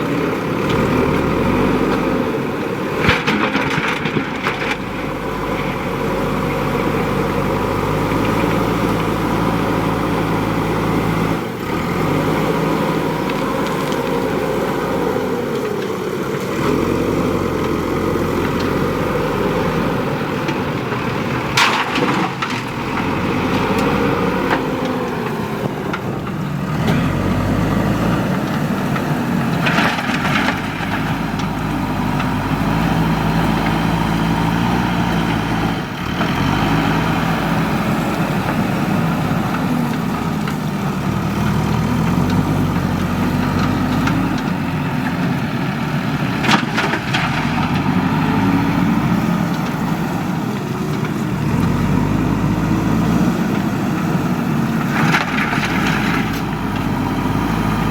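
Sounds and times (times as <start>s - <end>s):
diesel engine revving: 0.0s - 57.9s.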